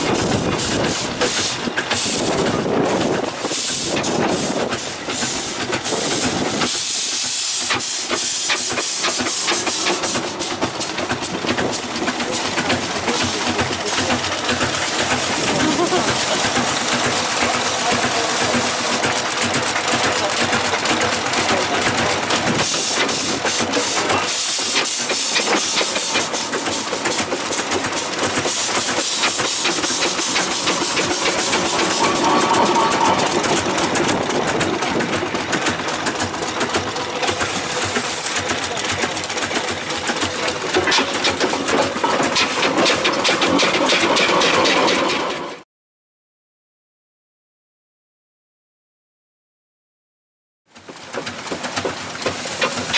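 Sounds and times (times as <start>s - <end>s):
steam hissing: 0.0s - 45.5s, 51.0s - 52.9s
steam engine clattering: 0.0s - 45.6s, 50.7s - 52.9s.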